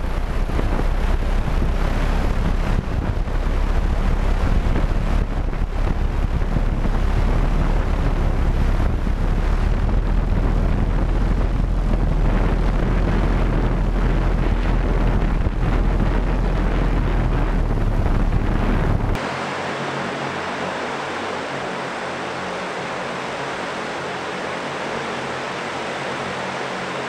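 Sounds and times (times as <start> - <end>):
electric rotors hovering: 0.0 - 27.0
wind noise on microphone: 0.0 - 27.0.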